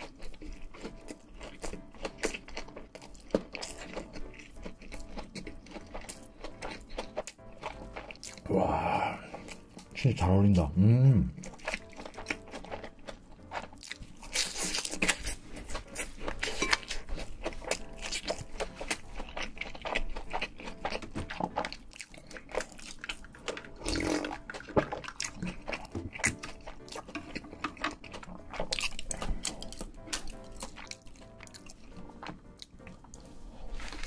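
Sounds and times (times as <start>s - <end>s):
chewing crunchy food: 0.0s - 34.0s.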